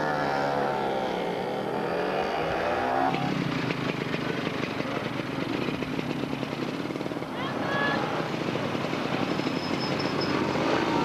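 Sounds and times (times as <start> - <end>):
motor scooter engine revving: 0.0 - 11.0.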